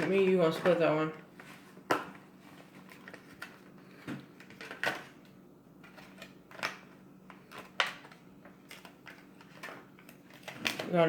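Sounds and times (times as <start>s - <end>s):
cards rustling: 0.0s - 5.2s, 5.8s - 11.0s.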